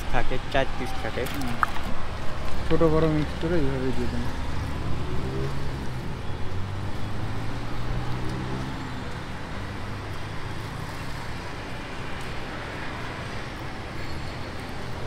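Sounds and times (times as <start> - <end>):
road traffic noise: 0.0 - 15.0
vehicle engine humming: 0.0 - 15.0.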